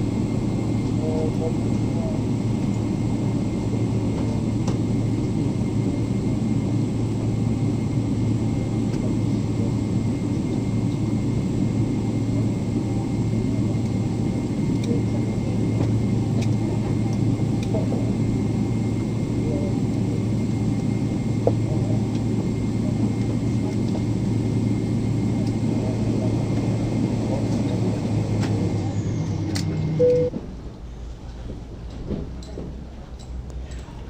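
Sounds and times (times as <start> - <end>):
aircraft cabin rumble and hum: 0.0 - 34.0.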